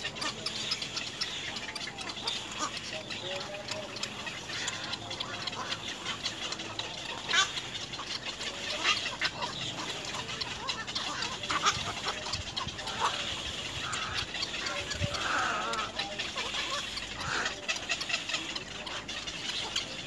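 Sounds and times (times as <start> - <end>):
heron chicks calling: 0.0 - 20.0.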